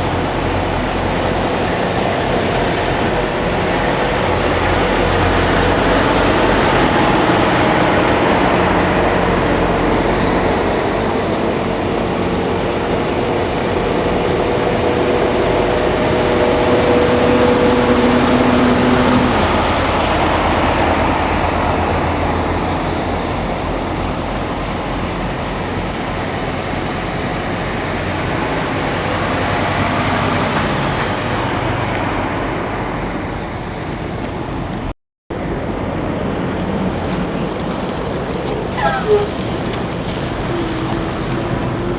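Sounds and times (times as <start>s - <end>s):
heavy trucks driving past: 0.0s - 41.9s
steady engine hum: 0.0s - 41.9s.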